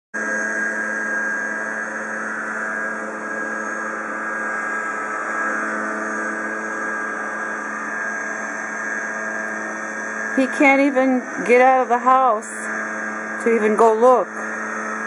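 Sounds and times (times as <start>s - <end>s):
leaf blower running: 0.2s - 15.0s.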